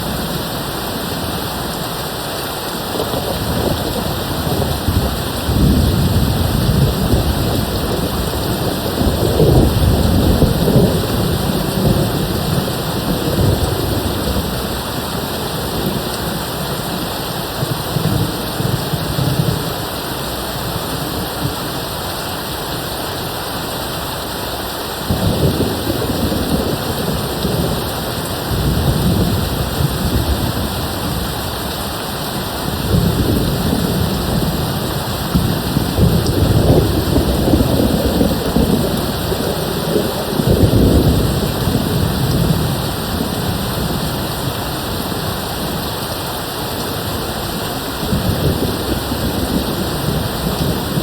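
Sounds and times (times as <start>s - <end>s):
heavy rain: 0.0s - 51.0s
thunder rumbling: 2.8s - 21.7s, 25.0s - 46.0s, 47.0s - 51.0s.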